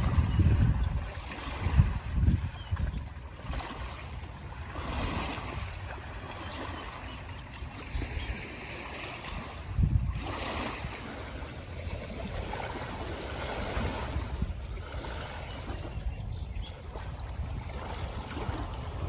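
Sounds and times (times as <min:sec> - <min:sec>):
lake waves washing on shore: 0:00.0 - 0:19.0
wind buffeting microphone: 0:00.0 - 0:19.0.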